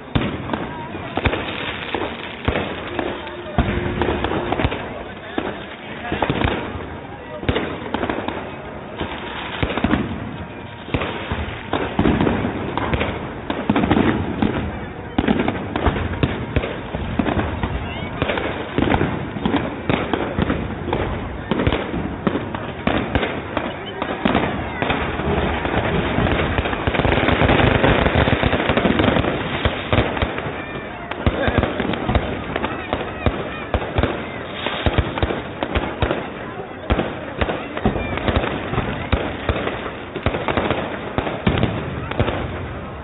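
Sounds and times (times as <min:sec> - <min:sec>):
continuous noisy background: 0:00.0 - 0:43.0
fireworks bangs and cracks: 0:00.0 - 0:43.0.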